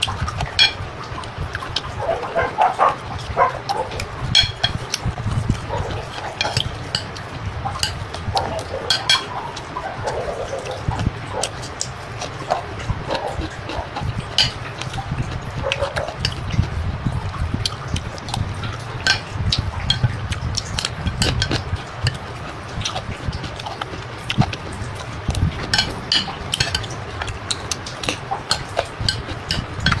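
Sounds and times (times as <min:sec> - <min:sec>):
utensils clinking on dishes: 0:00.0 - 0:16.7, 0:17.7 - 0:30.0.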